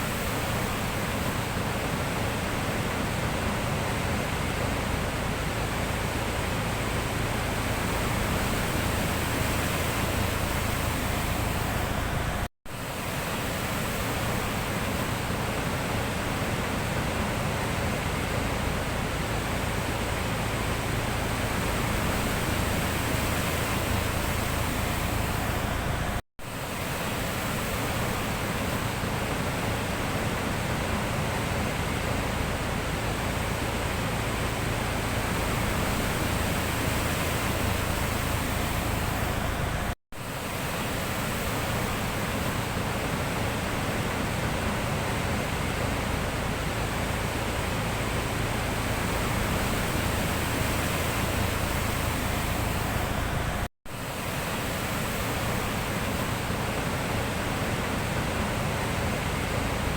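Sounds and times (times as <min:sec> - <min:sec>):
sea surf rushing: 0:00.0 - 0:59.9.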